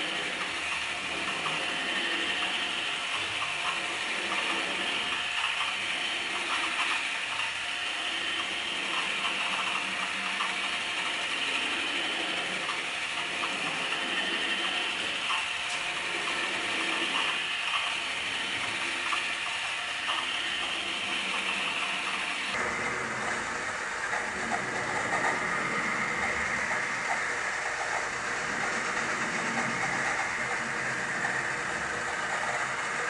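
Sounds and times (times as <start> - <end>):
drawing machine motor whir: 0.0 - 33.0.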